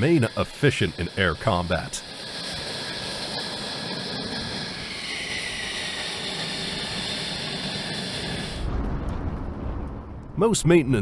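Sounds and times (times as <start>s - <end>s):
jet rush: 0.0s - 10.3s
jet engine whine: 0.0s - 10.4s.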